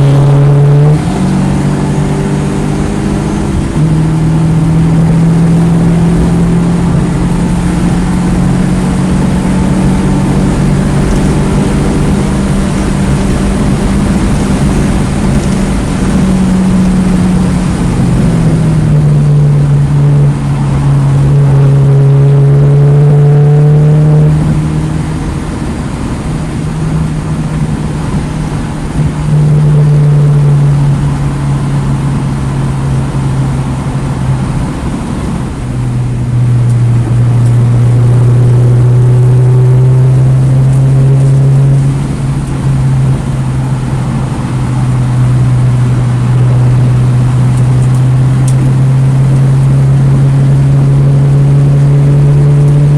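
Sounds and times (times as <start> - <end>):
car engine under hard driving: 0.0 - 52.9.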